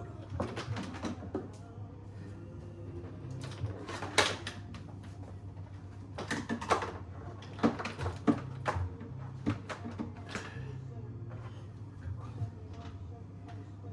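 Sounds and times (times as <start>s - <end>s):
low steady hum: 0.0s - 6.3s, 6.9s - 13.9s.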